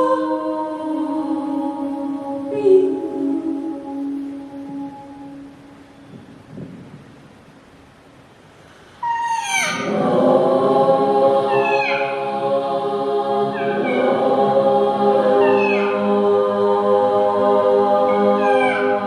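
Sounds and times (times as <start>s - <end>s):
swooping vocal glides: 0.0s - 5.8s, 9.0s - 19.0s
choir holding a chord: 0.0s - 6.0s, 9.6s - 19.0s.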